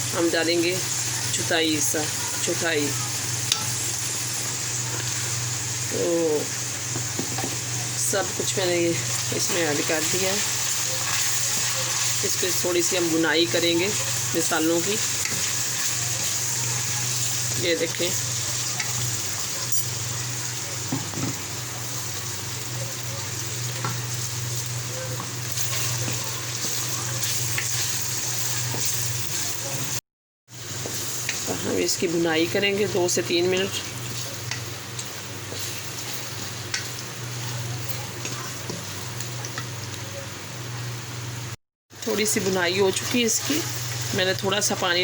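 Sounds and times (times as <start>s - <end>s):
food sizzling in oil: 0.0s - 45.0s.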